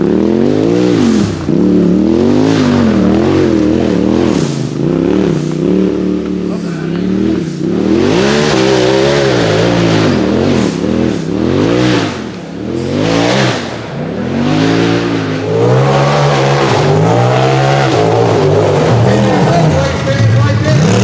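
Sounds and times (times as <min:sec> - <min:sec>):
buggy engine revving: 0:00.0 - 0:21.0.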